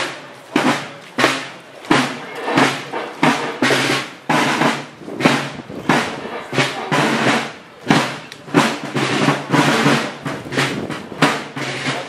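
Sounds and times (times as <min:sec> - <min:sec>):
drums beating a march: 0:00.0 - 0:12.0.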